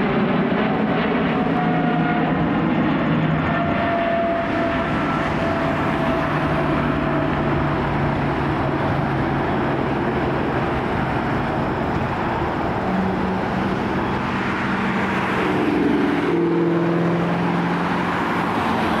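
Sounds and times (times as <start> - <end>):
jet engine rumble at takeoff: 0.0 - 19.0.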